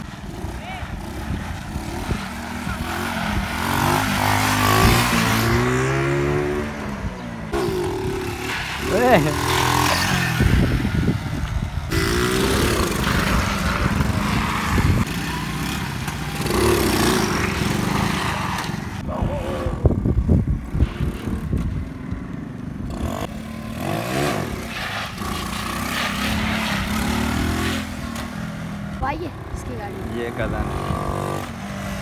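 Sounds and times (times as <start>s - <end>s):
small motorcycle engines revving: 0.0s - 32.0s
wind and road noise: 0.0s - 32.0s.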